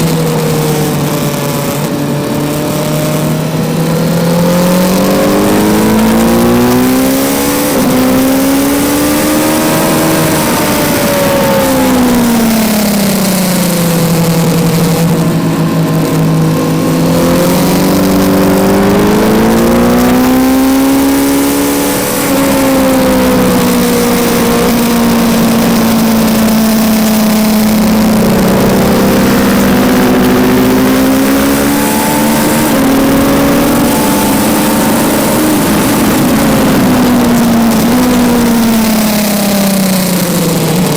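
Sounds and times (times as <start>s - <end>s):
motorcycle engine revving: 0.0s - 40.9s
wind rush over microphone: 0.0s - 40.9s.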